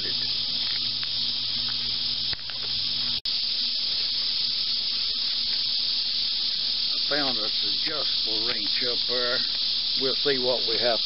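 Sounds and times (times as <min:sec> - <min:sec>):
insect chorus hiss: 0:00.0 - 0:11.0.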